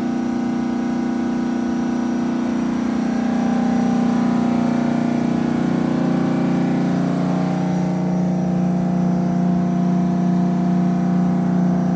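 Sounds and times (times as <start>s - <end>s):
diesel generator engine droning: 0.0s - 11.9s.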